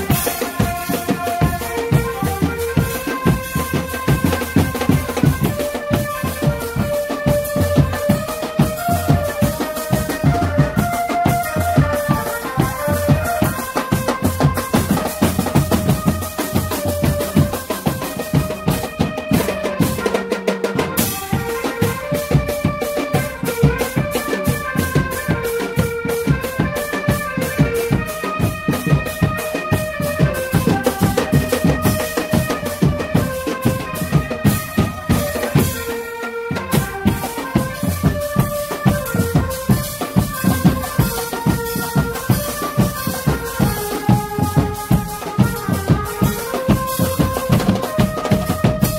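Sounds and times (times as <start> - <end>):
marching drum band: 0.0 - 48.9
stepping melody line: 0.0 - 48.9.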